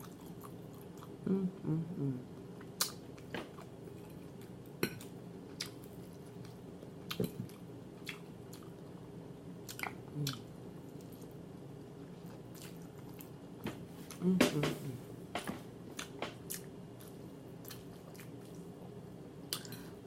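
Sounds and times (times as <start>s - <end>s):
person chewing food: 0.0s - 1.4s, 2.3s - 14.2s, 15.7s - 18.8s, 19.5s - 20.0s
steady low hum: 0.0s - 20.0s.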